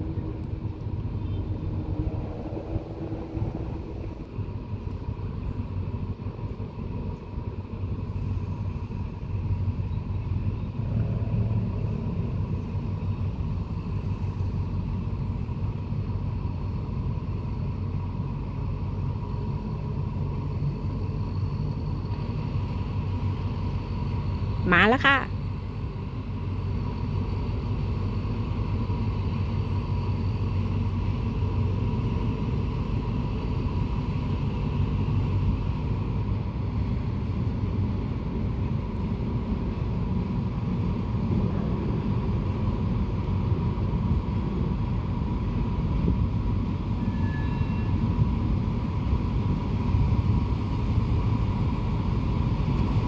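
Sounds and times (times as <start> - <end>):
locomotive engine rumbling: 0.0 - 53.0.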